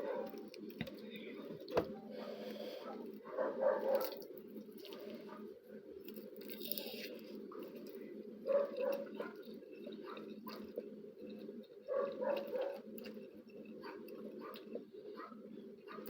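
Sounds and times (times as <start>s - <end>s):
person chewing noodles: 1.6s - 16.0s.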